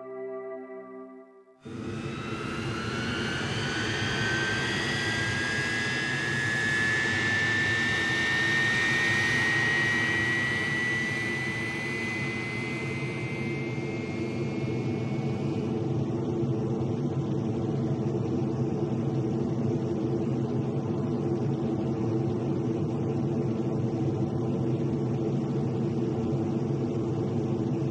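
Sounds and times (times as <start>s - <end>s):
jet turbine whine: 1.6s - 27.9s
jet engine low rumble: 1.7s - 27.9s.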